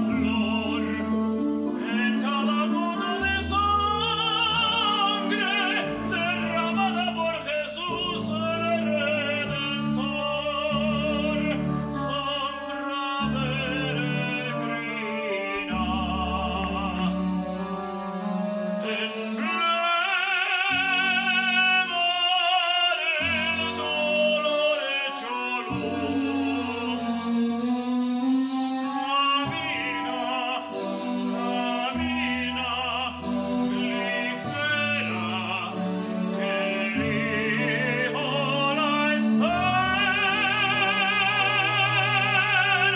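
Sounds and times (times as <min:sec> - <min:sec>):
operatic singing: 0:00.0 - 0:42.9
orchestral accompaniment: 0:00.0 - 0:42.9.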